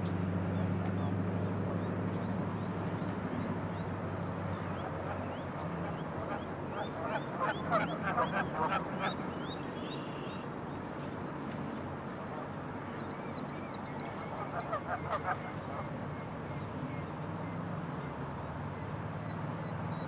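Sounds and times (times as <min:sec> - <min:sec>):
waterbirds calling: 0:00.0 - 0:20.0.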